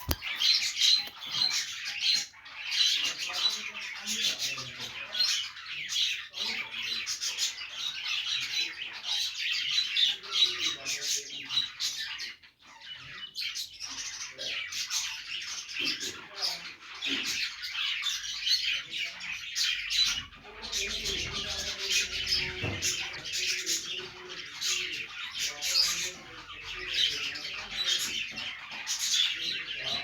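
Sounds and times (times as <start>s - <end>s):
budgerigars chirping and squawking: 0.0s - 30.0s.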